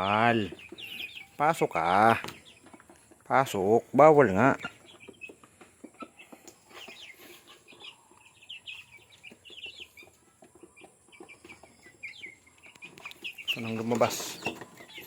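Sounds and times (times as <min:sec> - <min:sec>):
chickens chirping and clucking: 0:00.0 - 0:15.0.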